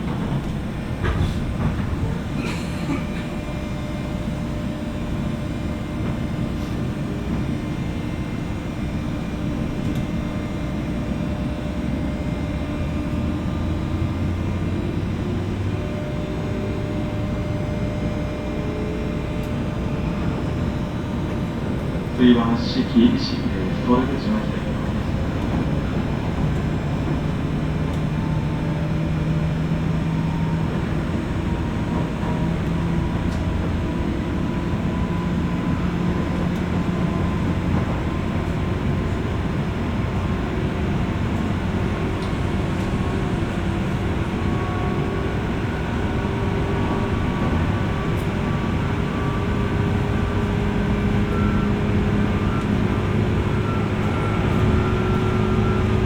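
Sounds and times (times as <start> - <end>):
wheels rumbling on rail: 0.0 - 56.0.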